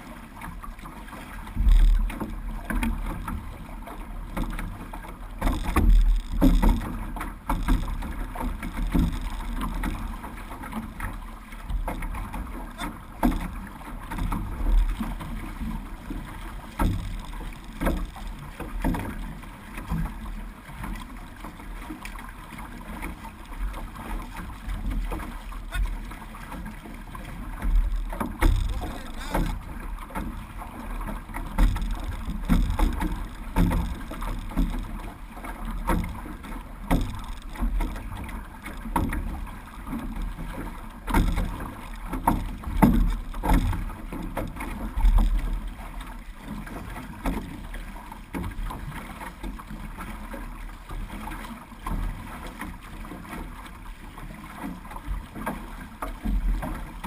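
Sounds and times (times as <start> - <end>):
paddles pulling through water: 0.0 - 57.0
water rushing along hull: 0.0 - 57.0.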